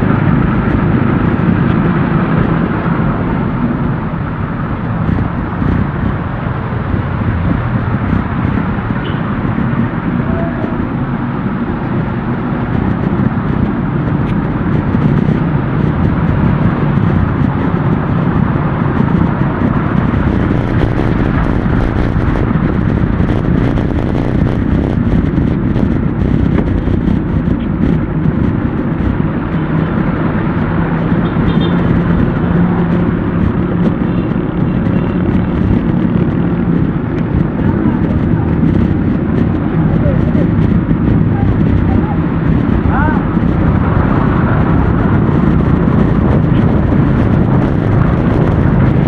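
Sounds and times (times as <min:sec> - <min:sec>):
vehicle engines running: 0:00.0 - 0:49.0
wind noise on microphone: 0:00.0 - 0:49.0.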